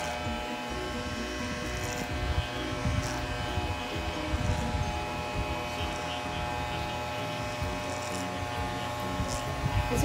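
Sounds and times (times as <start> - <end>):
electric hair clipper buzzing: 0.0 - 10.0.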